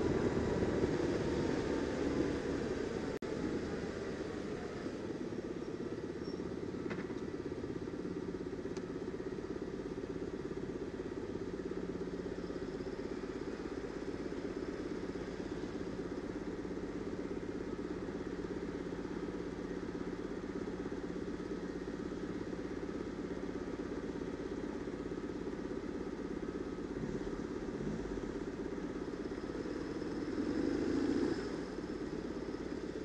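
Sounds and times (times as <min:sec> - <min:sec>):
motorcycle engine idling: 0:00.0 - 0:30.8, 0:31.4 - 0:33.0.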